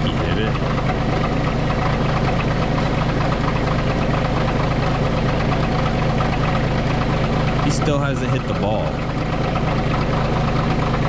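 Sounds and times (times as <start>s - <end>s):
trencher engine running: 0.0s - 11.0s.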